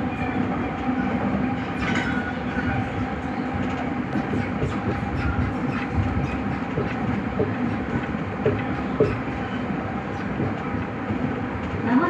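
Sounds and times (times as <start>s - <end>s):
subway train wheels rumbling on rail: 0.0s - 12.0s.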